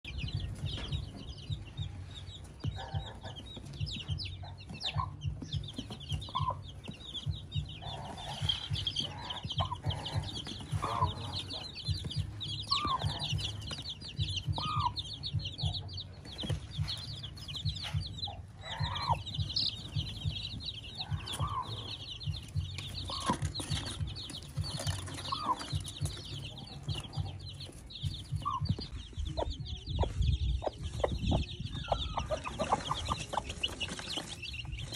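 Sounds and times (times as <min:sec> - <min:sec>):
chicks peeping: 0:00.0 - 0:34.9
hen clucking: 0:00.0 - 0:34.9.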